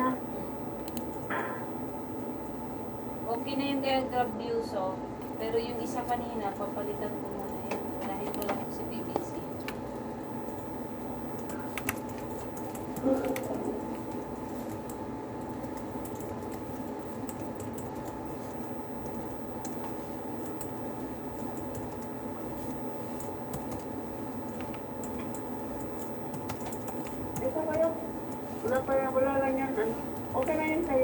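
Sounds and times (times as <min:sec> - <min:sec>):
background hum: 0:00.0 - 0:31.0
keyboard typing clicks: 0:00.8 - 0:01.6, 0:05.2 - 0:31.0.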